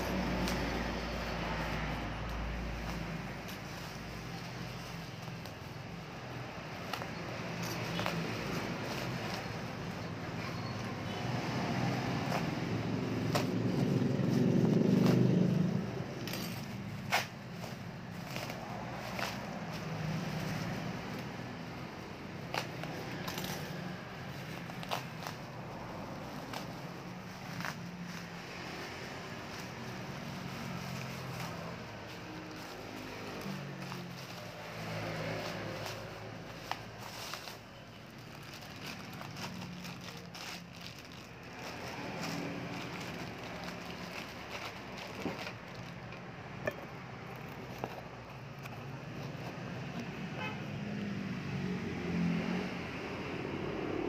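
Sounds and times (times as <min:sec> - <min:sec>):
vehicle engine passing by: 0:00.0 - 0:05.0, 0:07.2 - 0:22.2, 0:22.8 - 0:46.1, 0:49.1 - 0:54.0
plastic packaging rustling: 0:00.0 - 0:50.0
bubble wrap crackling: 0:00.0 - 0:50.2.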